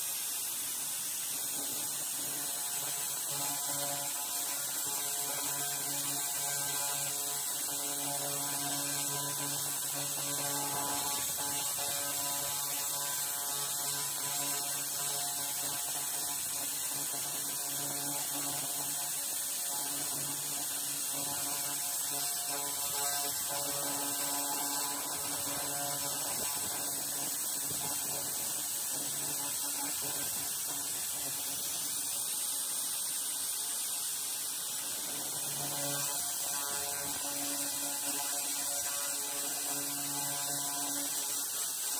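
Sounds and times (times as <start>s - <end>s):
high hiss: 0.0s - 41.9s
laser cleaner humming: 0.0s - 41.9s.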